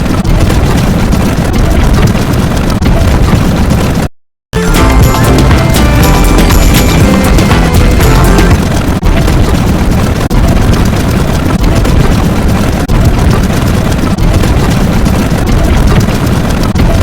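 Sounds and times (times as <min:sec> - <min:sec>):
loud dense rumbling noise: 0:00.0 - 0:17.0.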